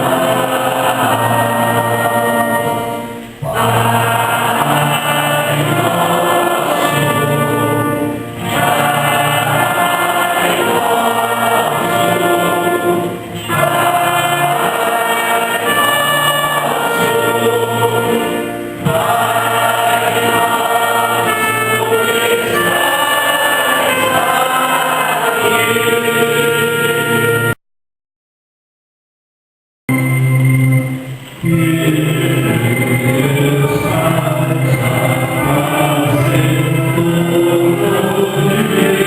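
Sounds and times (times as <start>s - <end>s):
church choir singing a hymn: 0.0s - 27.6s, 31.4s - 39.0s.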